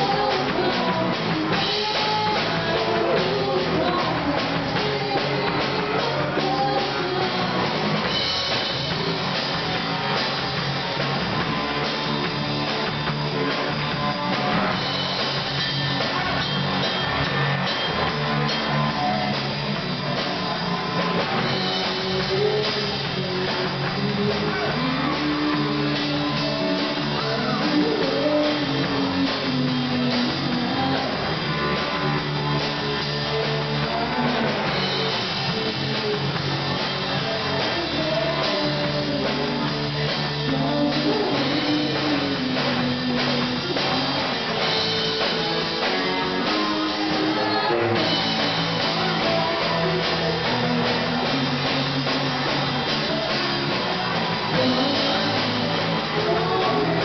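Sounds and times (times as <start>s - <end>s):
drum kit: 0.0s - 57.0s
electric guitars: 0.0s - 57.0s
woman singing lead: 0.0s - 57.0s.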